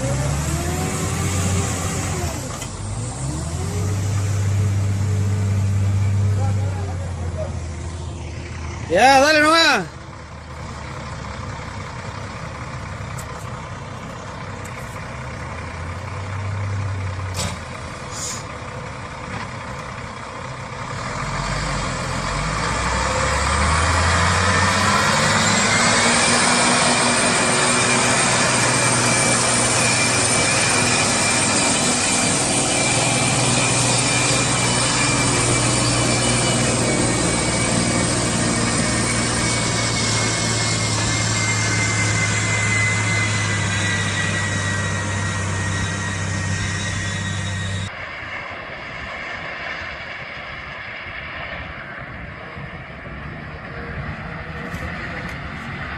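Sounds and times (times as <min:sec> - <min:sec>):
heavy truck engine revving: 0:00.0 - 0:47.9.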